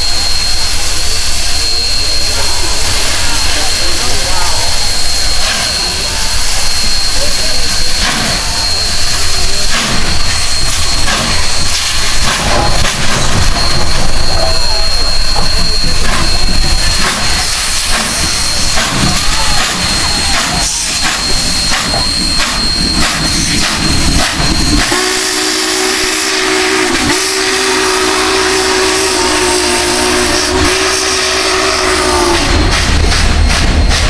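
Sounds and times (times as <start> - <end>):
deep chime steam whistle: 0.0 - 34.0
steam locomotive hissing and chuffing: 0.0 - 34.0.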